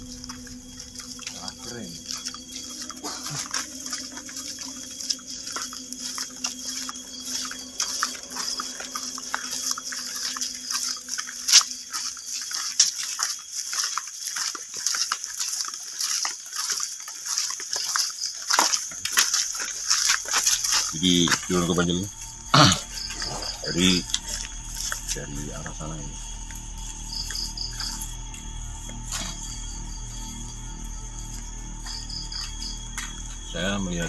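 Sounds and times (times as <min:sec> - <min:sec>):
footsteps in undergrowth: 0:00.0 - 0:34.0
night insects chirring: 0:00.0 - 0:34.0.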